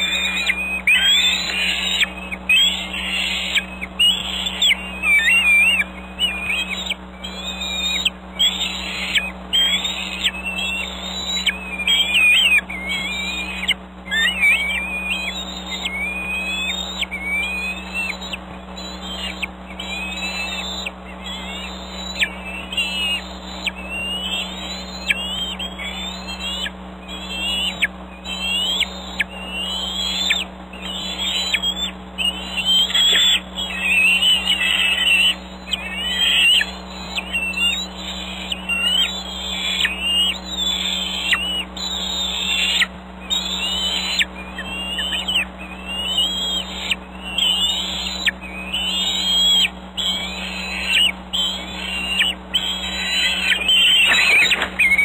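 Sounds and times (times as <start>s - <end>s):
eaglets squealing begging calls: 0.0s - 55.0s
faint steady hum: 0.0s - 55.0s.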